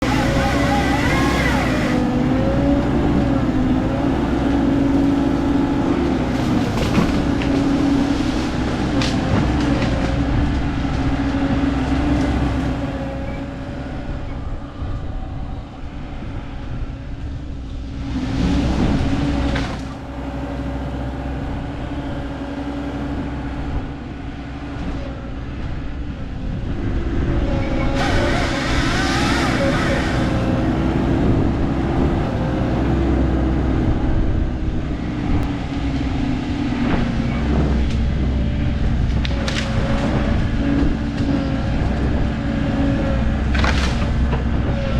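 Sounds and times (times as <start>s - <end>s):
heavy machinery engine running: 0.0s - 44.9s.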